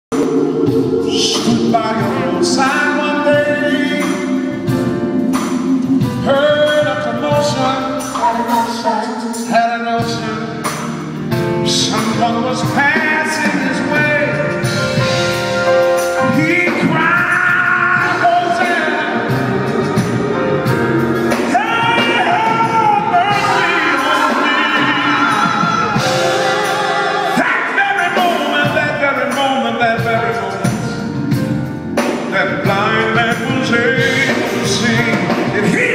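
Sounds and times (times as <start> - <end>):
choir singing gospel in harmony: 0.1 - 31.4, 32.0 - 35.9
instrumental accompaniment: 0.1 - 35.9.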